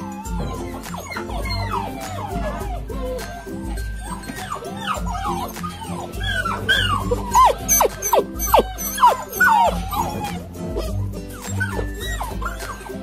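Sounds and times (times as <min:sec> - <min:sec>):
background music with steady beat: 0:00.0 - 0:13.0
puppies whining and yipping: 0:00.0 - 0:13.0.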